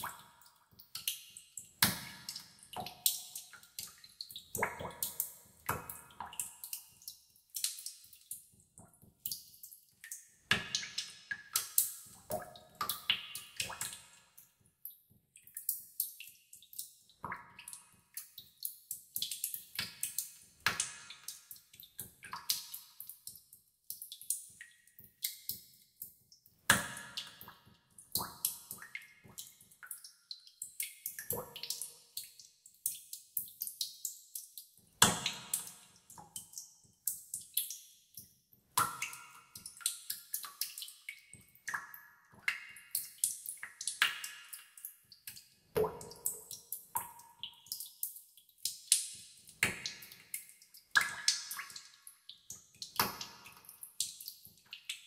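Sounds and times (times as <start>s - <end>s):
water drops plinking into tub: 0.0s - 8.3s, 9.2s - 14.2s, 22.2s - 37.7s, 38.8s - 55.0s.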